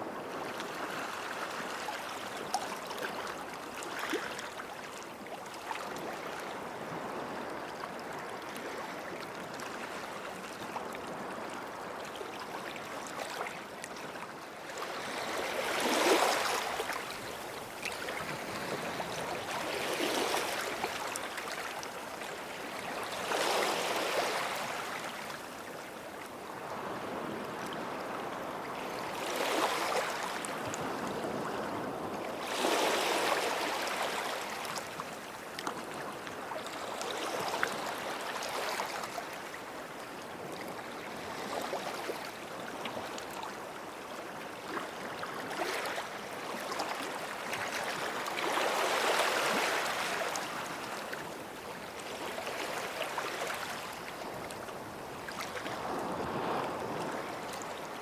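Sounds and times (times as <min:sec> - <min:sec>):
small sea waves breaking on shore: 0:00.0 - 0:58.0.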